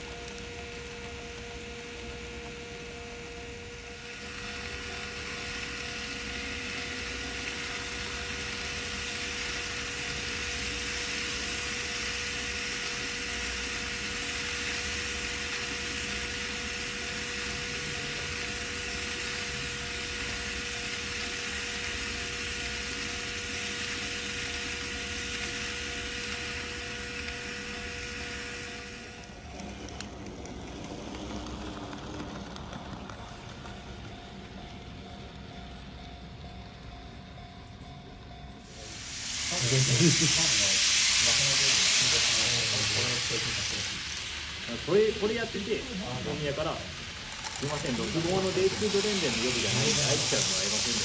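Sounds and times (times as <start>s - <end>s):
constant electrical hum: 0.0s - 51.0s
model train whirring on track: 0.0s - 51.0s.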